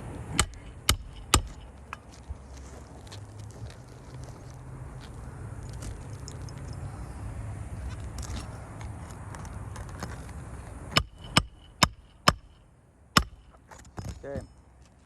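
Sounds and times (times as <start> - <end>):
low steady rumble: 0.0 - 14.6.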